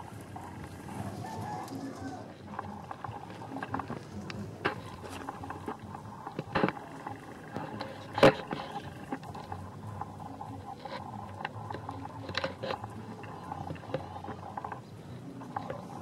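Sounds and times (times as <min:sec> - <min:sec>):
hooves crunching on loose stones: 0:00.0 - 0:16.0
goats biting off plants: 0:00.3 - 0:16.0.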